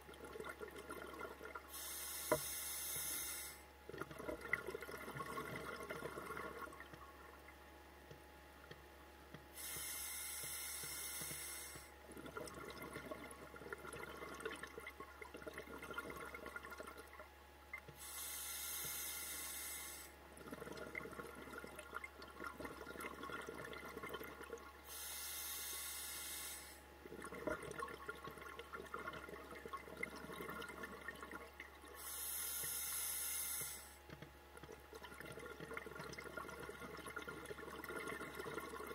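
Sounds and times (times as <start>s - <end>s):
bubbling exhaled air: 0.0s - 7.0s, 9.6s - 17.2s, 18.0s - 34.0s, 34.9s - 38.9s.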